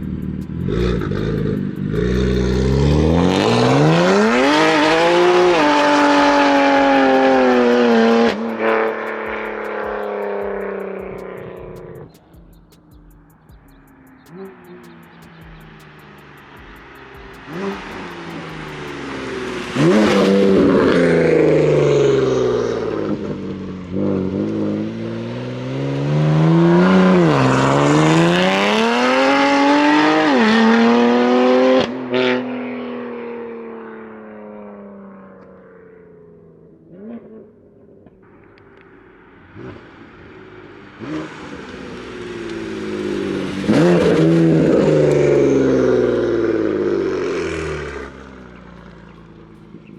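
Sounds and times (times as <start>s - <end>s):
car engine accelerating hard: 0.0s - 35.1s, 36.8s - 49.9s.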